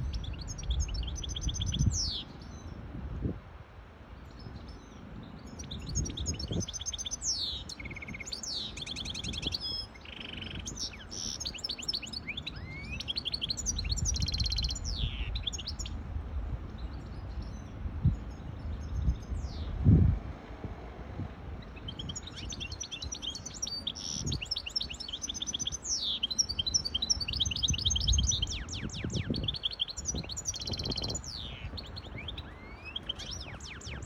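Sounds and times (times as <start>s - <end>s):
finch singing trills and whistles: 0.0s - 2.8s, 4.2s - 16.0s, 16.8s - 19.8s, 21.6s - 34.0s.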